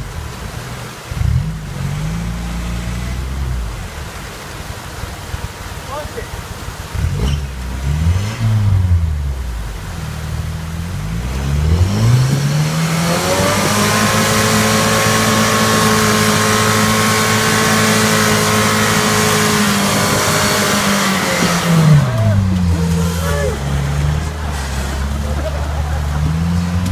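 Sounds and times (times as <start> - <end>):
buggy engine revving: 0.0 - 26.9
tires spinning on wet rock: 0.0 - 26.9.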